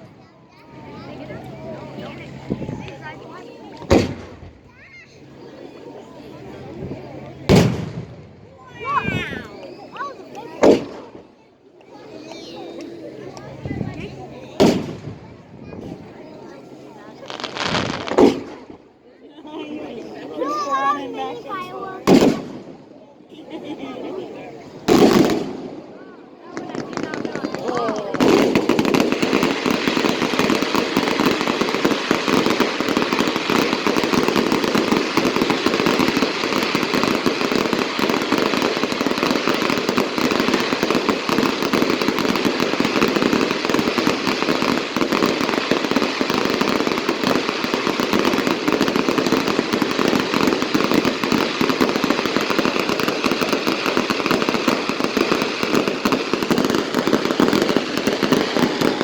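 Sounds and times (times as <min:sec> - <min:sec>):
fireworks crackling: 0:00.0 - 0:18.9, 0:19.7 - 0:59.0.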